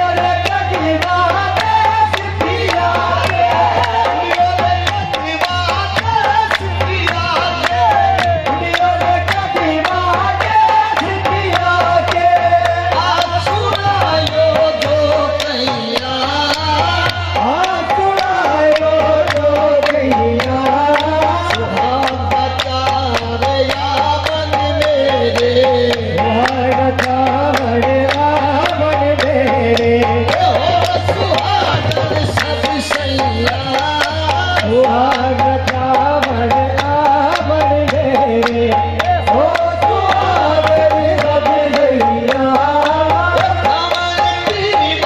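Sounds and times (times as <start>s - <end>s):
tabla beat: 0.0s - 45.0s.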